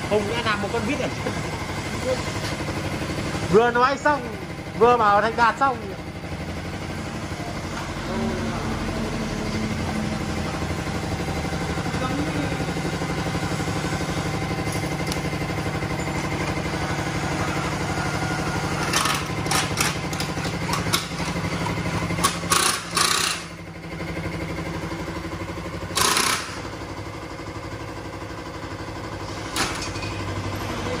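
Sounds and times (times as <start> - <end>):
steady motor hum: 0.0 - 31.0.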